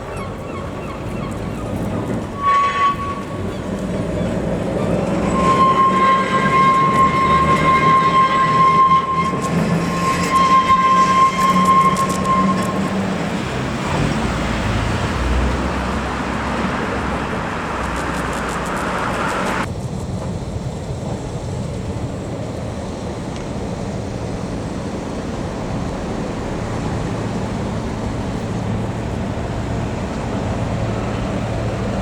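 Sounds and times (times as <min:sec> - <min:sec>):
electric tram running on rails: 0:00.0 - 0:32.0.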